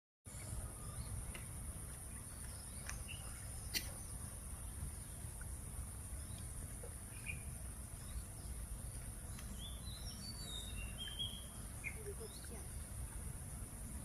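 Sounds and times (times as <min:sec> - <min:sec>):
bird chirps: 0:00.3 - 0:05.5, 0:06.1 - 0:13.1.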